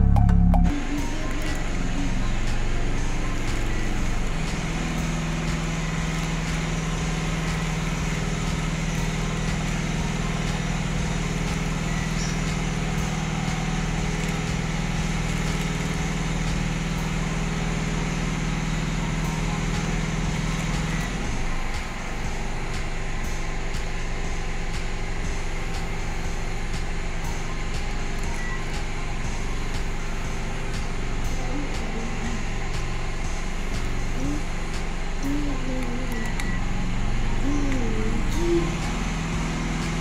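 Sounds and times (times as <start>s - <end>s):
continuous whir: 0.0s - 40.0s
low hum: 0.0s - 40.0s.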